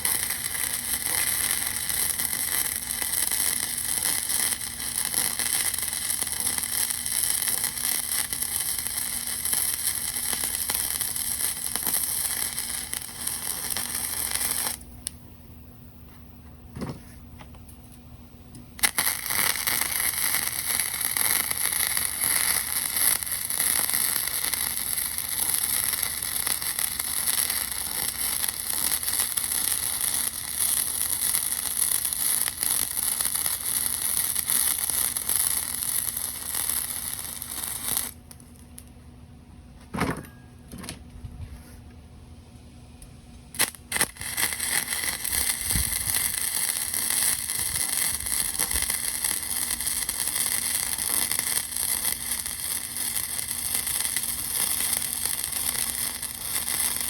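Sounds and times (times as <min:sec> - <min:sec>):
electric arc welding crackling: 0:00.0 - 0:15.2, 0:18.8 - 0:38.9, 0:43.5 - 0:57.0.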